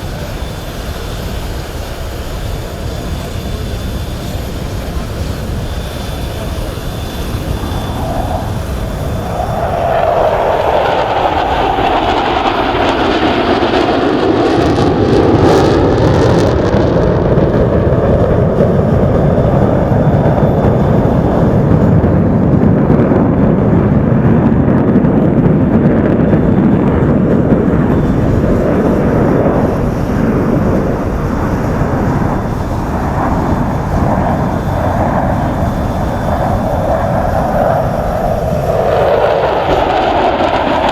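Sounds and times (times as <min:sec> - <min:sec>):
fighter jets roaring past: 0:00.0 - 0:40.9.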